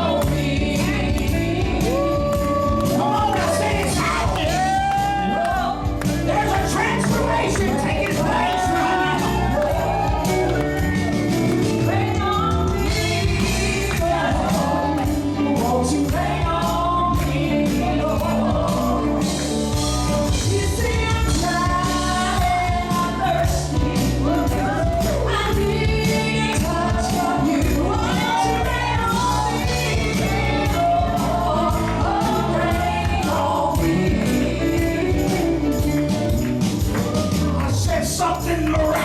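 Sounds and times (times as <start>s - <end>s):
band with percussion beat: 0.0s - 39.0s
voices singing gospel song: 0.0s - 39.0s.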